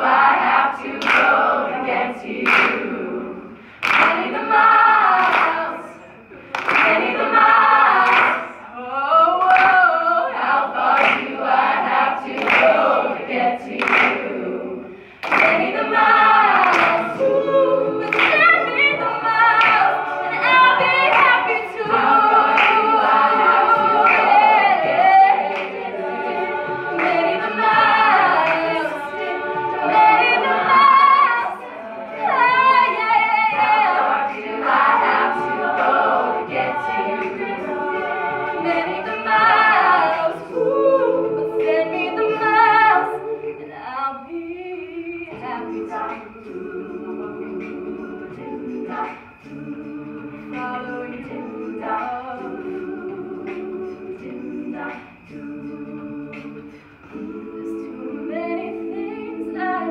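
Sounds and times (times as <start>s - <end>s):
women singing a cappella: 0.0s - 59.9s.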